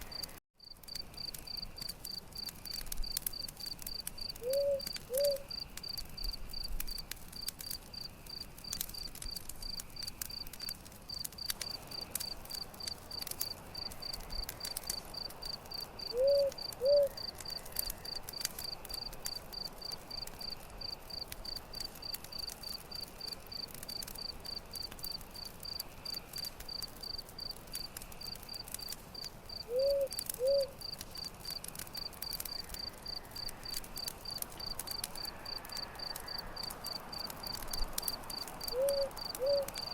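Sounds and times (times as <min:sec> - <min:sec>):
crickets chirping: 0:00.0 - 0:08.4, 0:09.0 - 0:39.9
campfire crackling: 0:00.0 - 0:39.9.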